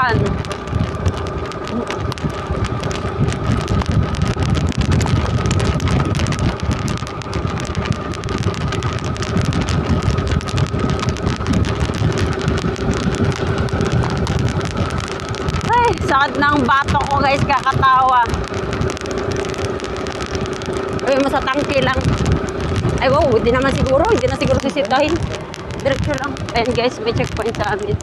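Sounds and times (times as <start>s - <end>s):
motorcycle engine hum: 0.0s - 28.0s
wind buffeting the microphone: 0.0s - 28.0s.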